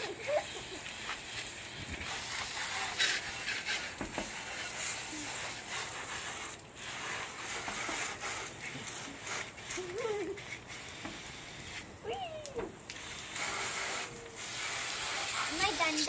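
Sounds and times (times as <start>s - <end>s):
hose spraying water on glass: 0.0s - 16.0s.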